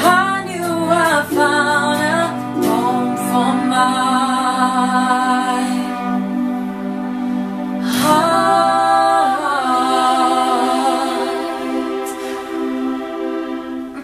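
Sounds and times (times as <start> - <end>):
acoustic accompaniment: 0.0 - 14.0
women singing in harmony: 0.0 - 14.0.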